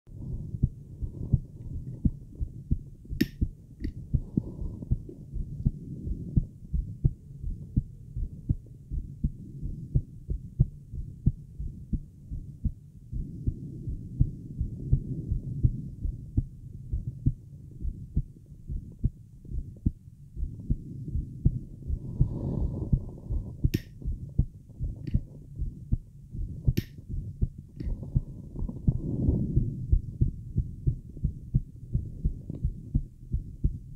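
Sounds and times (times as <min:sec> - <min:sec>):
heartbeat thumps: 0:00.1 - 0:33.9.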